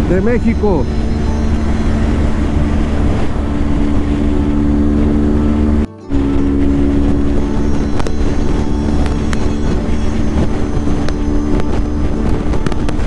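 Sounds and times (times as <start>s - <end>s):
motorcycle engine droning: 0.0s - 13.0s
wind rumble: 0.0s - 13.0s.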